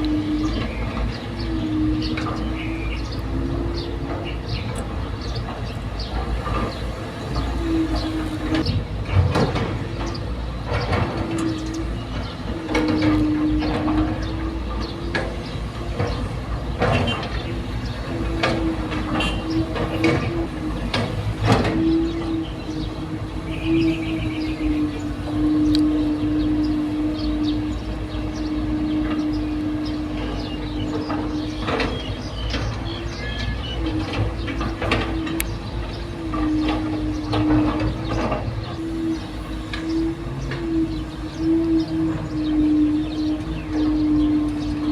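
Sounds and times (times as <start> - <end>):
birds chirping: 0.0 - 44.9
excavator engine rumble: 0.0 - 44.9
machine whine: 0.0 - 44.9.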